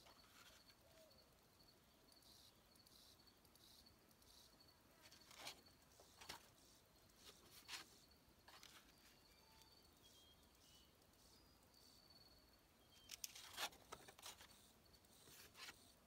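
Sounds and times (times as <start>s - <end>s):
faint high chirps: 0.0s - 16.0s.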